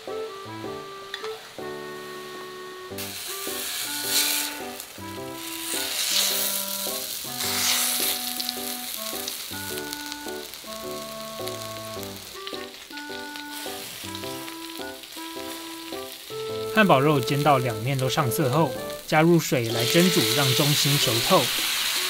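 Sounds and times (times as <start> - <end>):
piano music: 0.0 - 22.0
patties sizzling in hot oil: 0.1 - 22.0.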